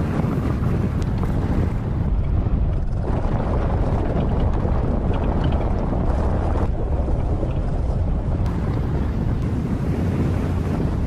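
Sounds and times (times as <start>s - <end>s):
engine and tyres on gravel: 0.0s - 11.0s
wind buffeting microphone: 0.0s - 11.0s.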